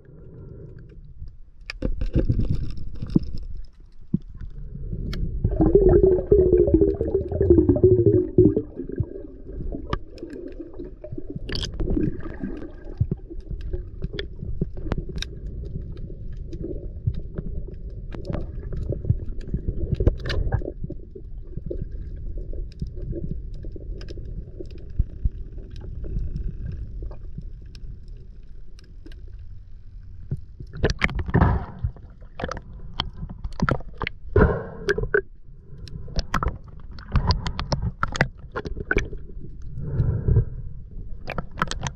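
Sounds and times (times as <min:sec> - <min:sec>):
muffled underwater water rumble: 0:00.0 - 0:41.9.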